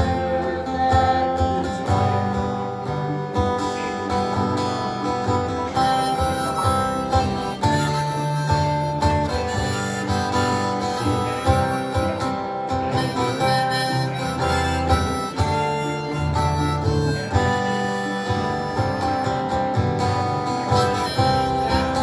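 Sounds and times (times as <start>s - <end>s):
harmonica melody: 0.0s - 22.0s
strummed acoustic guitar: 0.0s - 22.0s.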